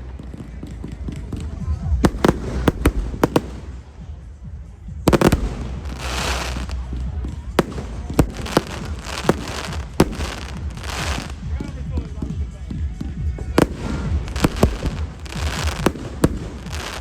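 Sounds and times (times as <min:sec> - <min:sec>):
firework crackling: 0:00.0 - 0:04.4, 0:05.0 - 0:11.6, 0:13.5 - 0:17.0.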